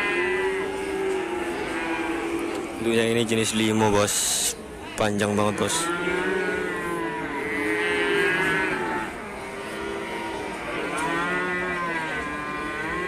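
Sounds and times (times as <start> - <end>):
cattle mooing: 0.0 - 2.9, 5.1 - 13.0.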